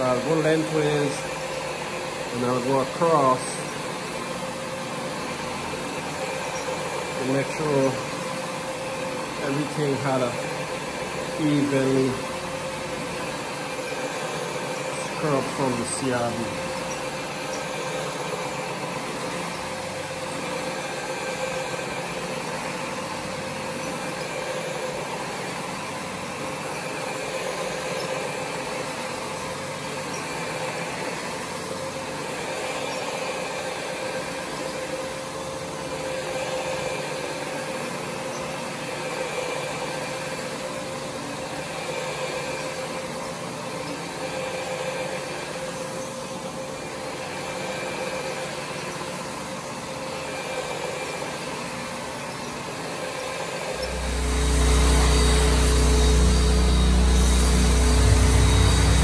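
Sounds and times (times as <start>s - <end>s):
carpet scrubbing machine humming: 0.0s - 59.0s.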